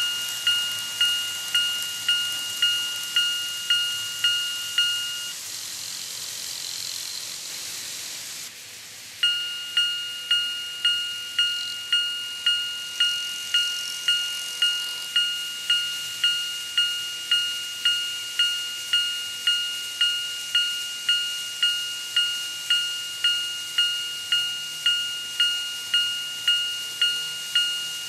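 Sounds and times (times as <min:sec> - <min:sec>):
level crossing bell dinging: 0:00.0 - 0:05.4, 0:09.2 - 0:28.0
model train running on track: 0:00.0 - 0:28.0.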